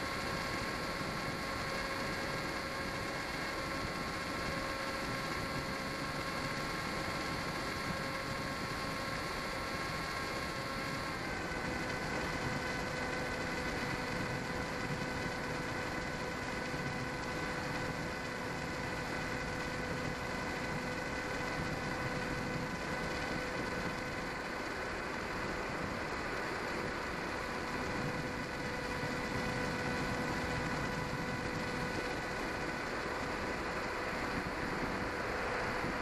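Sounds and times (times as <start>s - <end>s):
electric motor and propeller whine: 0.0s - 36.0s
wind rush on microphone: 0.0s - 36.0s.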